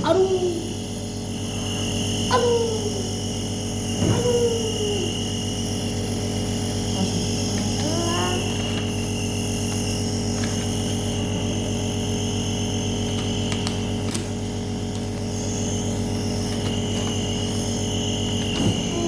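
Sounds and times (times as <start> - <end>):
electric machine humming and whining: 0.0 - 19.0.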